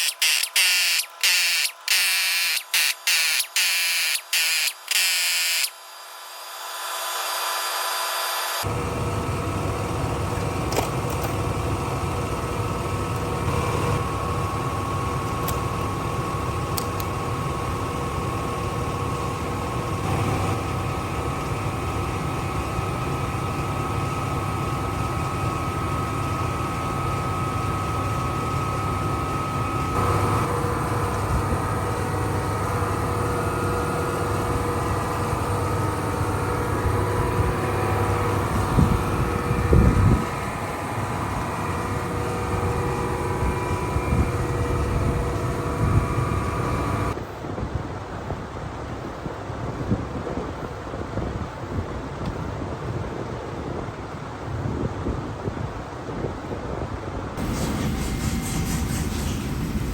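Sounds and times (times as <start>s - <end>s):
pressure washer droning: 0.0s - 47.2s, 57.4s - 59.9s.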